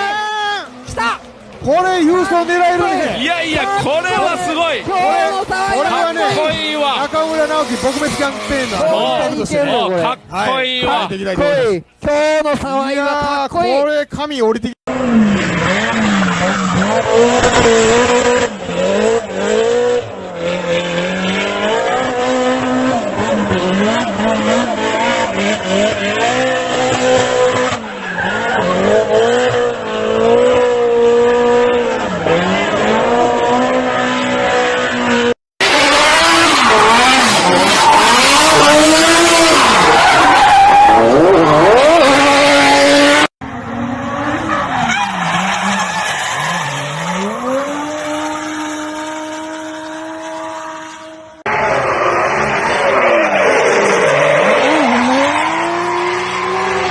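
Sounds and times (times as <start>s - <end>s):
tyres squealing and skidding: 0.0s - 12.0s, 14.9s - 56.9s
car engines revving: 0.0s - 12.8s, 14.9s - 56.9s.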